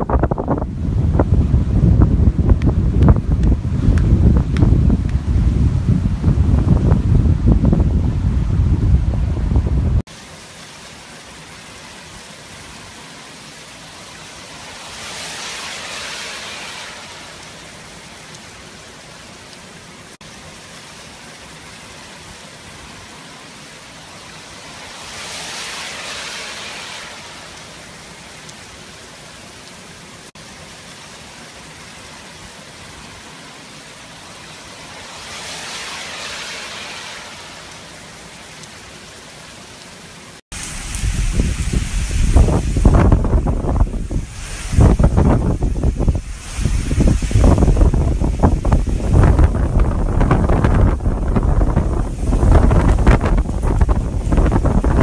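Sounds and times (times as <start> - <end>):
heavy wind-driven rain: 0.0 - 55.0.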